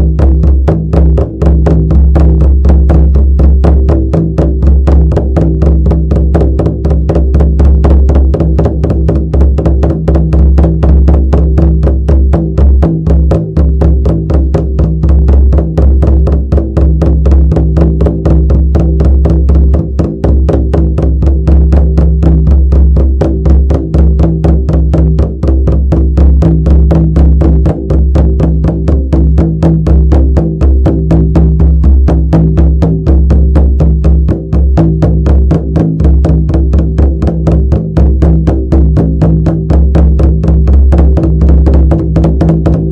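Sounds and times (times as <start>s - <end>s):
frame drum beating: 0.0s - 42.9s.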